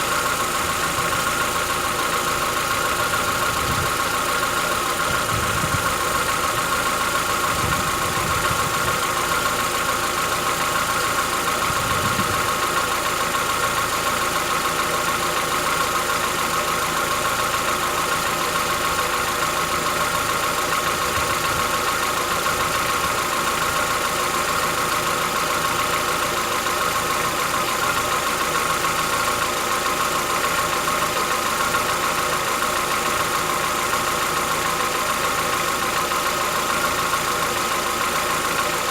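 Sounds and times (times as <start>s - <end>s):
car engine idling with knocking: 0.0s - 38.9s.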